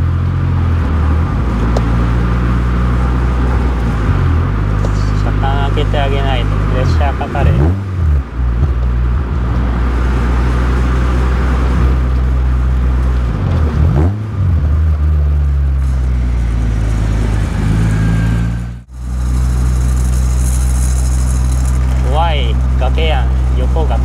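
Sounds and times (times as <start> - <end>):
car engine from inside cabin: 0.0 - 24.0
road noise: 0.0 - 24.0.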